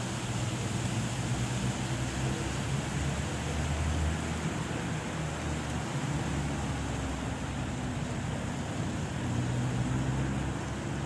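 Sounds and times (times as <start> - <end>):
wind rustling palm trees: 0.0 - 11.0.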